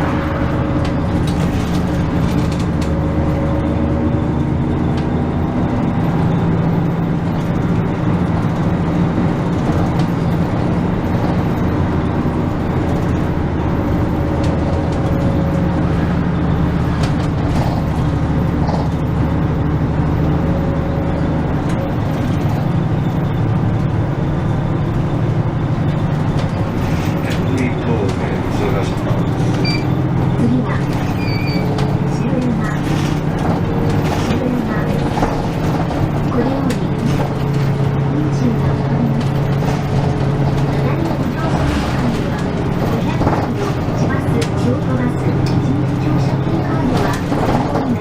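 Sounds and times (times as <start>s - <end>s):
bus engine rumble: 0.0s - 48.0s
road noise: 0.0s - 48.0s.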